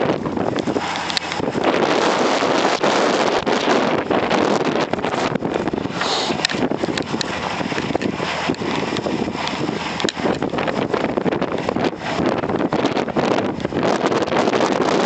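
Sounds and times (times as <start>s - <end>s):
wind buffeting microphone: 0.0s - 15.0s
crackling pops: 0.5s - 13.0s.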